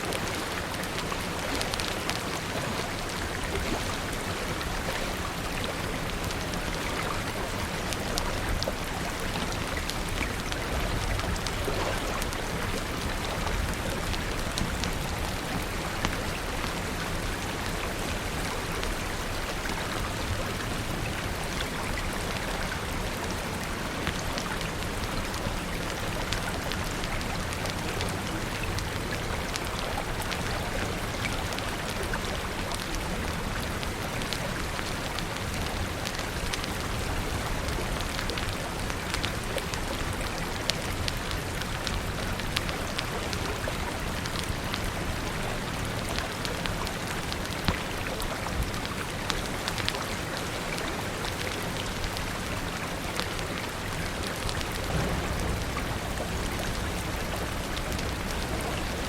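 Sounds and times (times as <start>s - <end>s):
running water rushing: 0.0s - 59.0s
steady rain falling: 0.0s - 59.0s.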